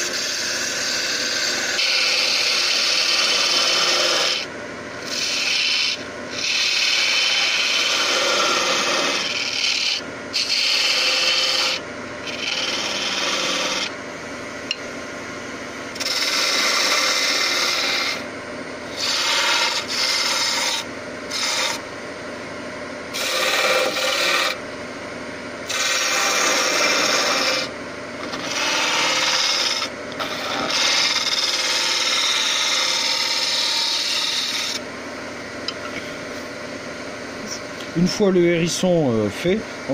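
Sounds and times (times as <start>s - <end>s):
lathe tool cutting wood: 0.0s - 14.0s, 15.9s - 24.8s, 25.6s - 34.9s.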